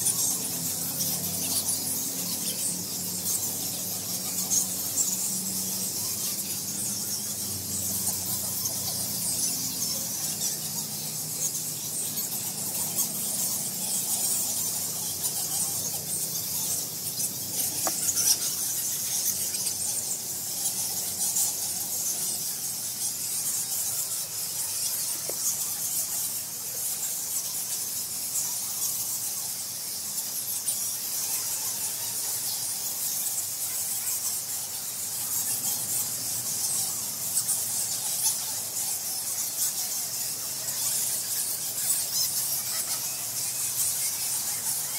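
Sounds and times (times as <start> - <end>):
bats squeaking and chittering: 0.0 - 44.9.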